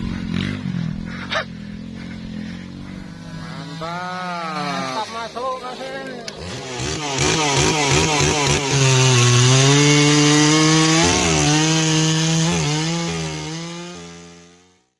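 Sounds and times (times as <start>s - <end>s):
chainsaw cutting log: 0.0s - 14.9s.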